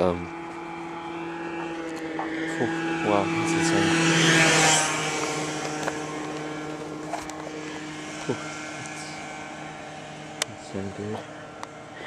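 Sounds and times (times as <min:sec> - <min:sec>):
motor vehicle passing by: 0:00.0 - 0:12.0
steady low hum: 0:00.0 - 0:12.0.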